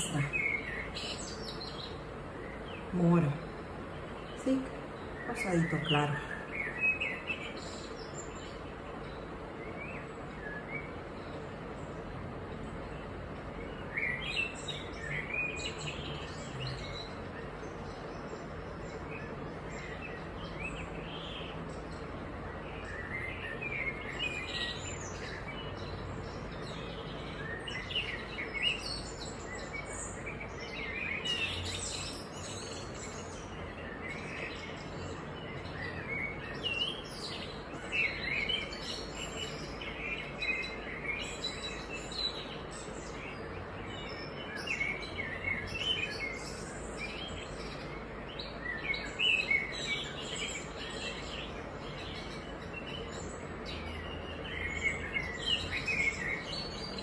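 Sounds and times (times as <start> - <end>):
birds chirping: 0.0 - 57.0
faint hum and hiss: 0.0 - 57.0.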